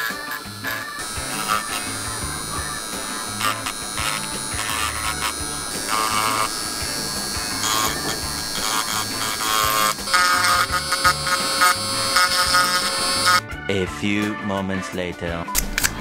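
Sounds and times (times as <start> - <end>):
bit chipping plastic: 0.0 - 13.4
rotary tool whining: 0.0 - 13.4
background music: 0.0 - 16.0.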